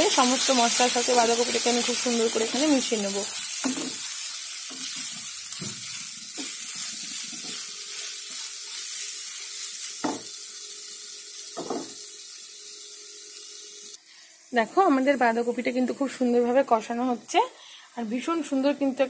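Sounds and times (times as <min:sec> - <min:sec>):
vegetables sizzling in pan: 0:00.0 - 0:19.0.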